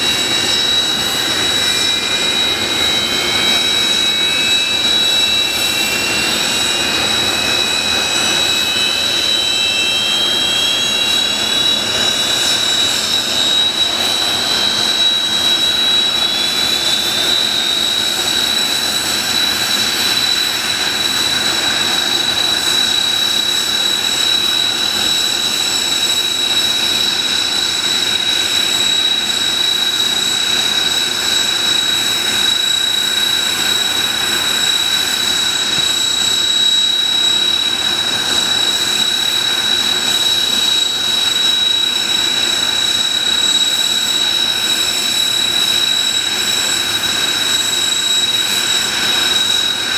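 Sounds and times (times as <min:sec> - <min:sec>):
jet engine whine: 0:00.0 - 0:49.9
jet roar: 0:00.0 - 0:49.9.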